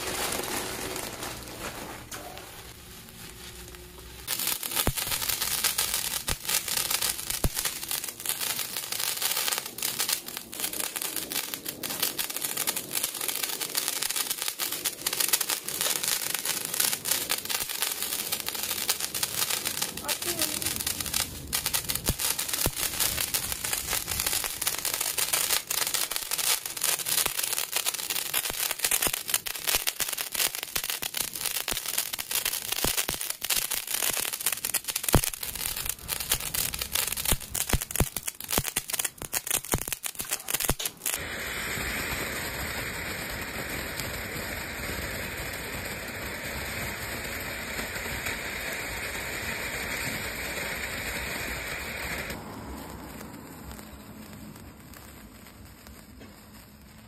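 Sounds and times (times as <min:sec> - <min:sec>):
fountain firework hissing: 0:00.0 - 0:57.0
handheld firework crackling: 0:00.0 - 0:57.0.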